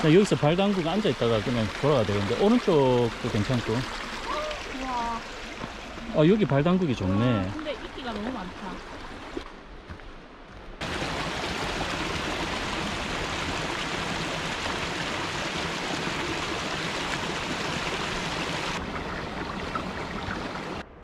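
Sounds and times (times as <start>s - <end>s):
stream running over rocks: 0.0s - 10.0s, 10.8s - 20.8s.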